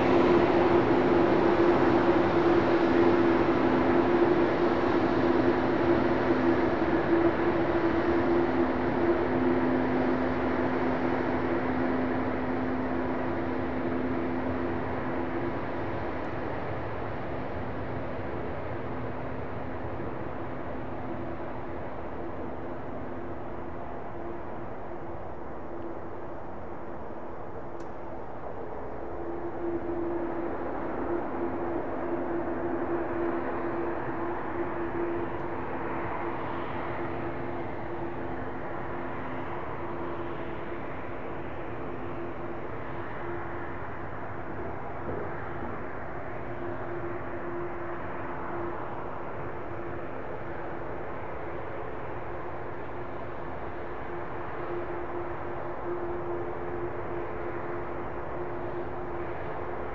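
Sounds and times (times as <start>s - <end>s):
jet engine rush: 0.0s - 59.9s
low steady hum: 0.0s - 59.9s.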